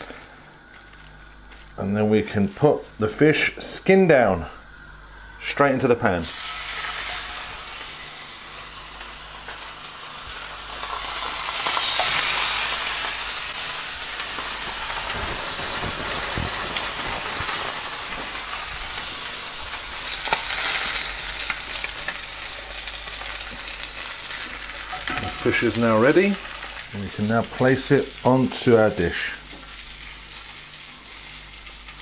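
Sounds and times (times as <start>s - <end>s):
fish sizzling in a frying pan: 6.2s - 32.0s.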